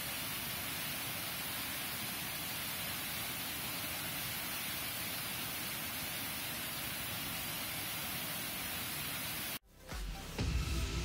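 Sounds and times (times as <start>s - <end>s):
waterfall splashing into pool: 0.0s - 9.6s.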